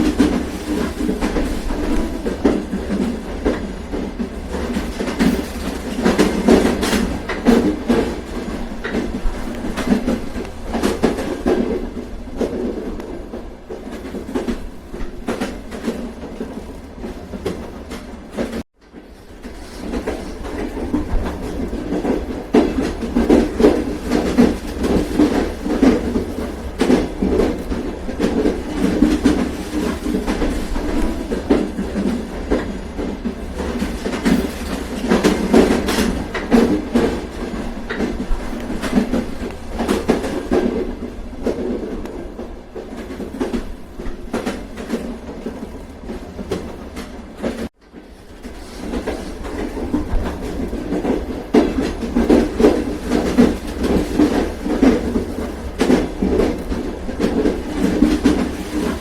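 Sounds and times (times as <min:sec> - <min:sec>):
train rumbling on rails: 0:00.0 - 0:59.0
wheels clacking over track: 0:00.0 - 0:59.0.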